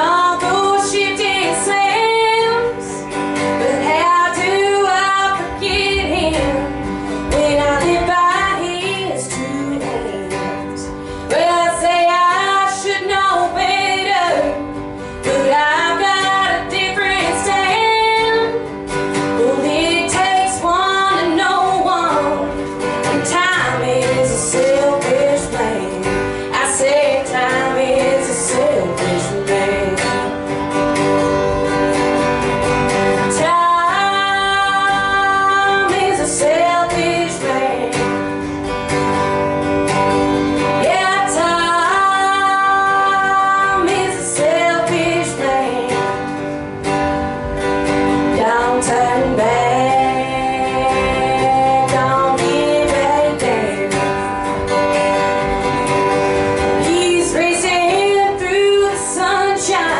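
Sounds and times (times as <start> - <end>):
woman singing: 0.0 - 32.3, 33.0 - 38.5, 40.1 - 46.6, 47.6 - 55.8, 56.5 - 59.9
acoustic guitar: 0.0 - 59.9.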